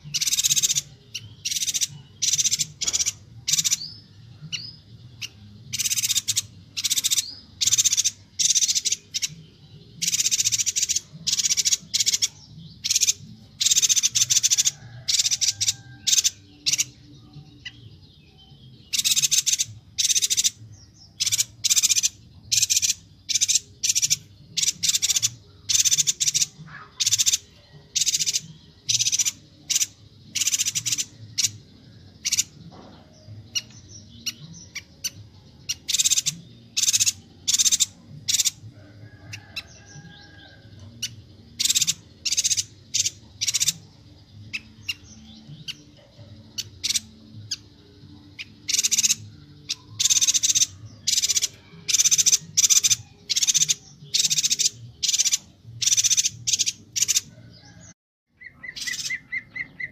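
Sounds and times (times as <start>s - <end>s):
bird chattering calls: 0.0s - 9.4s, 10.0s - 17.0s, 18.9s - 20.6s, 21.2s - 43.9s, 44.5s - 57.8s, 58.4s - 59.9s
faint low background murmur: 0.0s - 57.9s.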